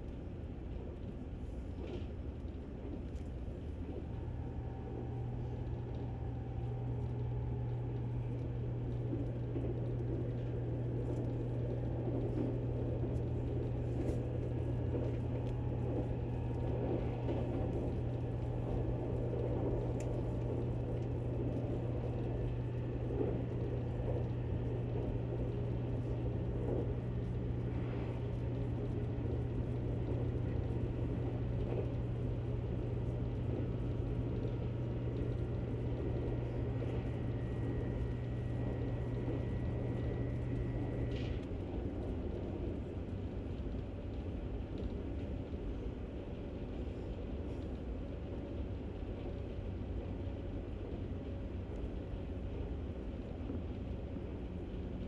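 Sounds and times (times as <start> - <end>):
deep constant hum: 0.0 - 55.0
train interior running rumble: 0.0 - 55.0.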